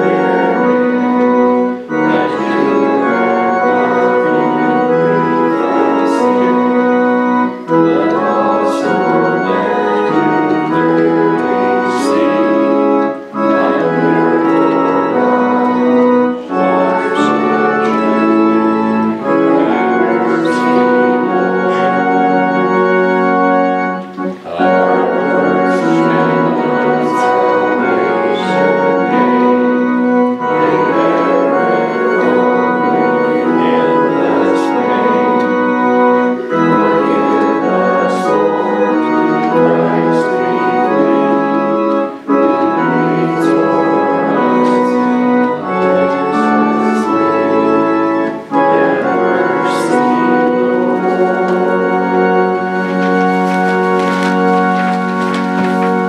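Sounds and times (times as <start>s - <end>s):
church organ playing hymn: 0.0s - 56.0s.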